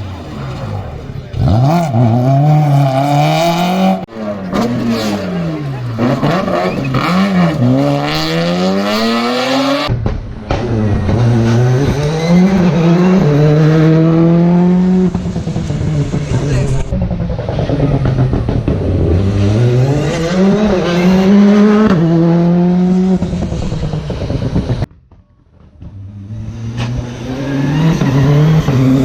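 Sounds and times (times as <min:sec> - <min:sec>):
rally car engines revving: 0:00.0 - 0:24.9, 0:25.7 - 0:29.0.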